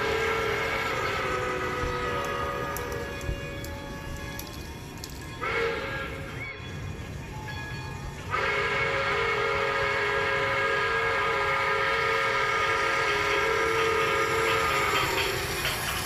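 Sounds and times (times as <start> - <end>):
toy train electronic horn: 0.0 - 7.0, 8.2 - 16.0.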